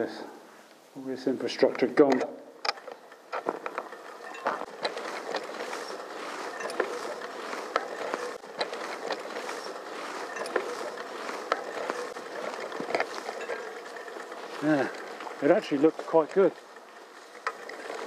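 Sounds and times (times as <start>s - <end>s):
bike rattling over ruts: 1.5s - 18.0s
bicycle tyres rolling on grass: 2.8s - 18.0s.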